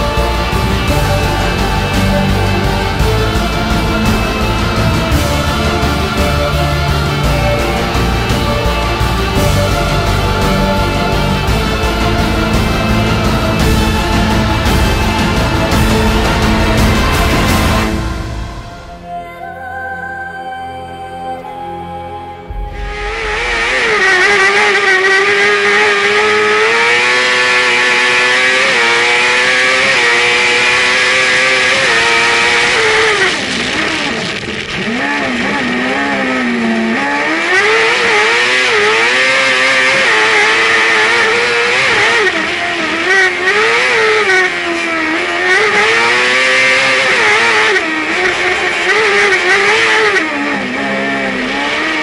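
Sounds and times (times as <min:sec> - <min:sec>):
buggy engine revving hard: 0:00.0 - 0:18.8, 0:22.6 - 0:52.0.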